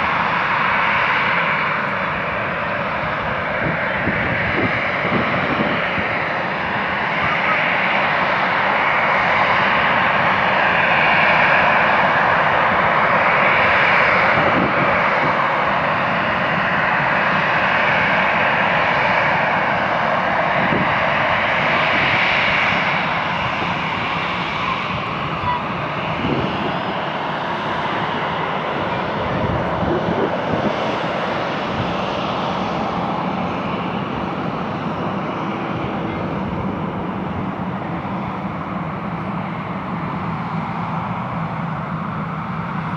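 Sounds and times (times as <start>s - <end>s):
airliner engines running: 0.0s - 42.9s.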